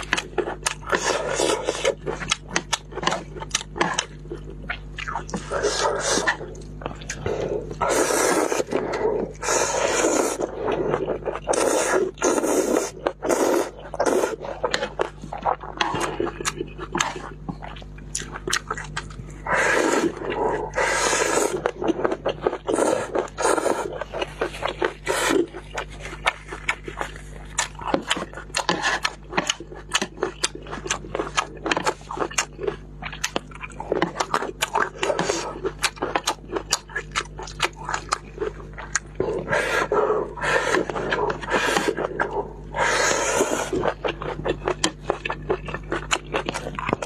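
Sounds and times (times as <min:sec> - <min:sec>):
wet chewing and crunching: 0:00.0 - 0:47.0.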